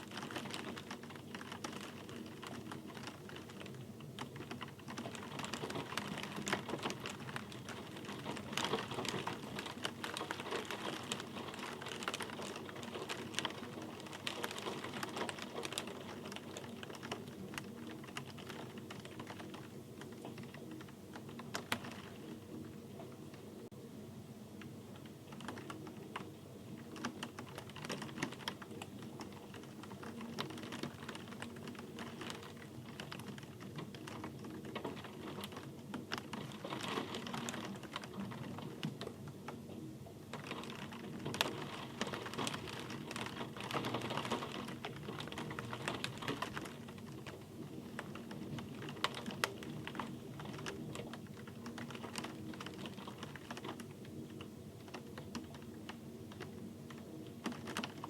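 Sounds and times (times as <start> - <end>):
rain falling on a surface: 0.0 - 23.7, 24.6 - 58.0.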